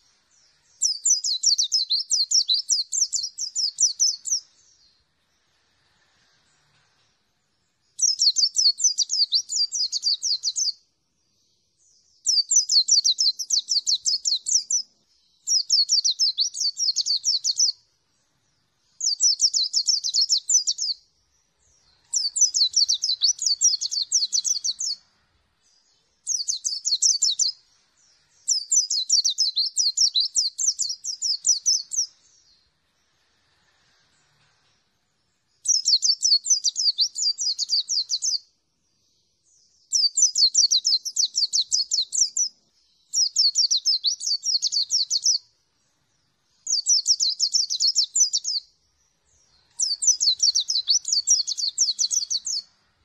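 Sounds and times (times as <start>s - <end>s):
bird singing high trills: 0.0s - 5.1s, 7.7s - 10.8s, 11.9s - 17.9s, 18.8s - 32.7s, 35.4s - 38.5s, 39.7s - 45.6s, 46.5s - 53.0s.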